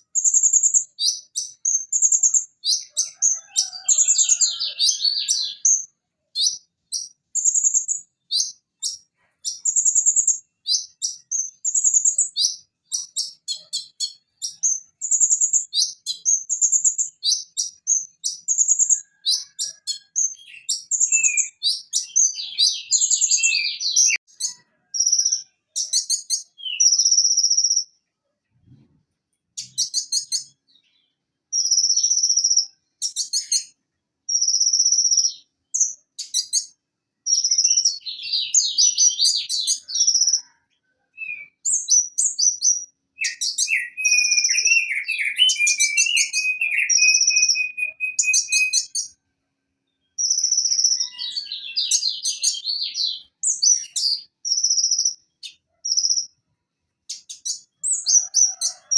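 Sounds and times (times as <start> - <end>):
bird chirping and trilling: 0.0 - 27.9, 29.6 - 40.5, 41.2 - 49.2, 49.9 - 56.4, 57.1 - 58.9.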